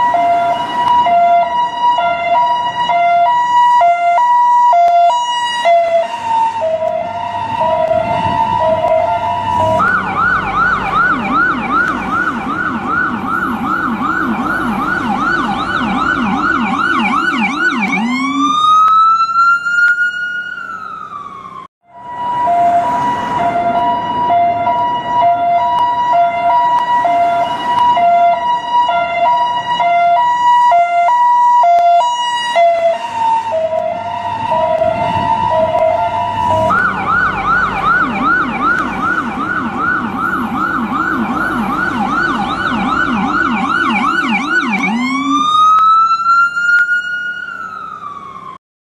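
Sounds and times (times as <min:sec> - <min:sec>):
ambulance siren cycling tones: 0:00.0 - 0:48.6.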